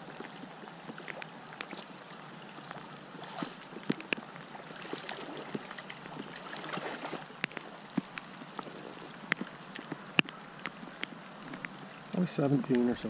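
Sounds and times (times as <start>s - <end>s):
river water lapping and splashing: 0.0s - 13.0s
sharp splashes and clicks: 0.0s - 13.0s.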